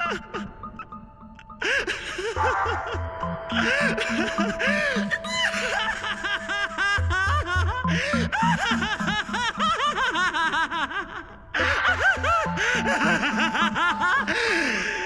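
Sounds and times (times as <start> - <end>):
man laughing maniacally: 1.7 - 15.0.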